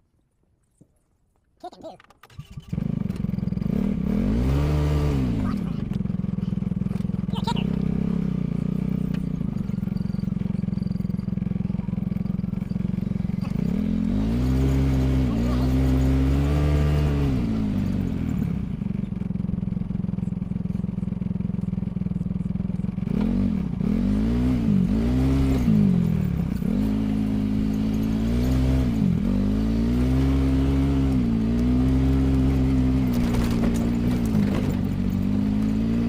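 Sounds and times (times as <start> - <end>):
vehicle engine revving: 2.4 - 36.0.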